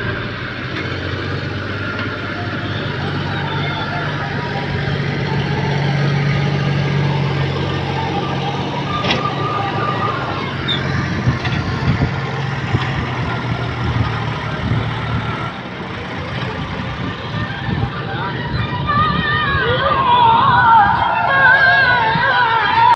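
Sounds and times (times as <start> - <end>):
heavy vehicle engine droning: 0.0 - 22.9.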